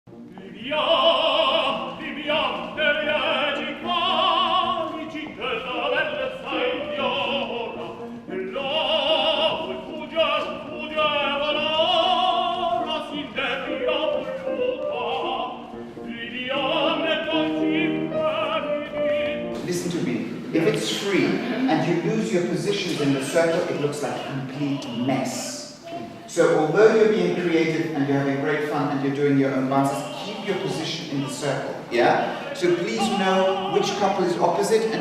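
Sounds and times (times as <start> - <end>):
instrumental accompaniment: 0.1 - 35.0
operatic singing: 0.1 - 35.0.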